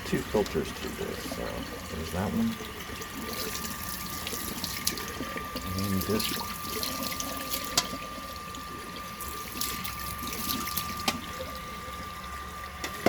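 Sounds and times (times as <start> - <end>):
faucet water splashing: 0.0 - 13.0.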